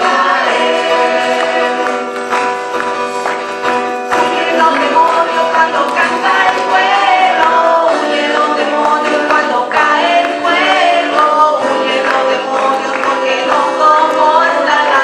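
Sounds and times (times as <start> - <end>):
church choir singing: 0.0 - 15.0
guitar accompaniment: 0.0 - 15.0.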